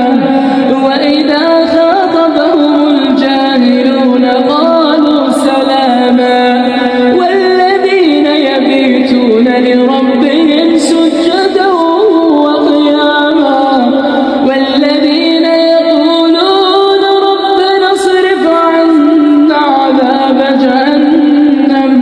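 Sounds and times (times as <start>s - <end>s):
person reciting melodically: 0.0s - 22.0s.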